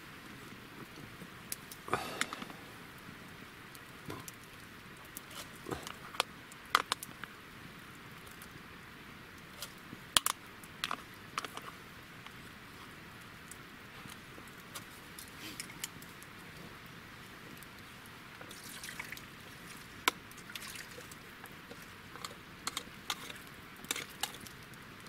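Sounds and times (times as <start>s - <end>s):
campfire crackling: 0.0s - 25.0s
soft hiss: 0.0s - 25.0s.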